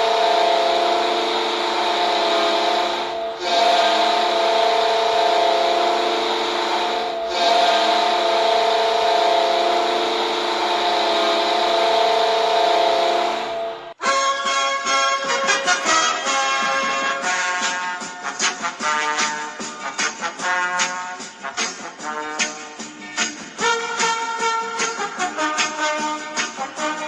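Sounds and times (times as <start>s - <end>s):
goal horn blasting: 0.0s - 22.8s, 23.6s - 27.0s.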